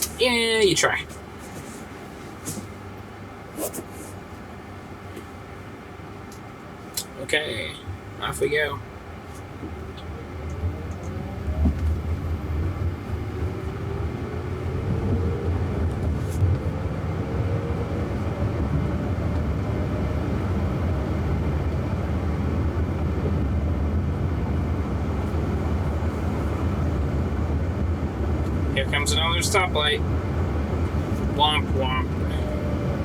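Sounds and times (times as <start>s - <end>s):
road and tyre rumble: 0.0s - 33.0s.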